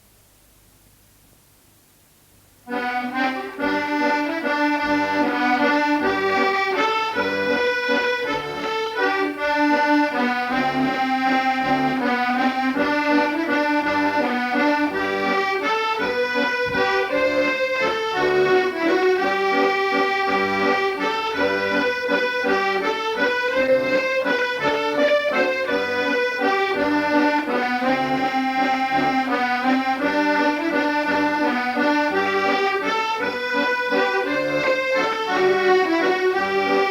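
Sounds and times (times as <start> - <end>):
accordion playing: 2.7 - 36.9.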